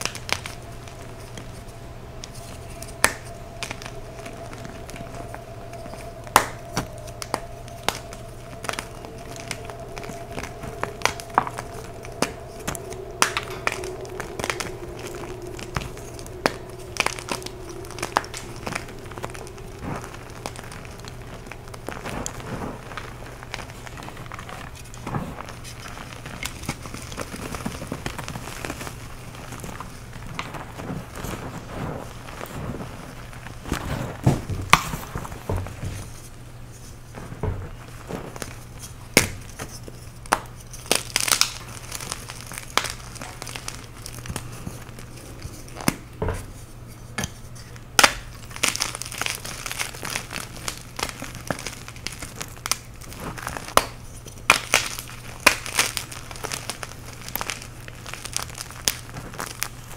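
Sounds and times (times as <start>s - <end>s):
low steady hum: 0.0s - 59.9s
powder crumbling and squishing: 0.0s - 59.9s.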